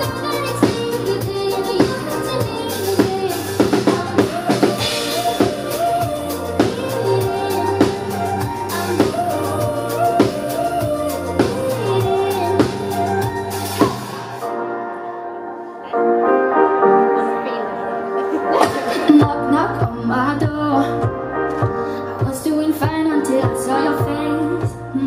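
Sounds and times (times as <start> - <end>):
drum kit beat: 0.0 - 14.5, 18.5 - 25.0
live pop band music: 0.0 - 25.0.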